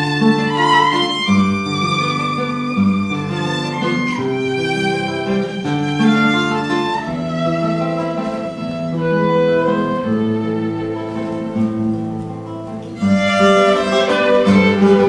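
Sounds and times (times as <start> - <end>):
guitar accompaniment: 0.0 - 15.0
violin melody: 0.0 - 15.0.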